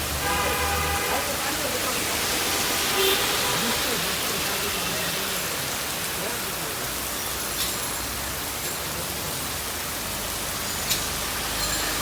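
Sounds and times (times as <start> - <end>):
rain hiss: 0.0 - 12.0.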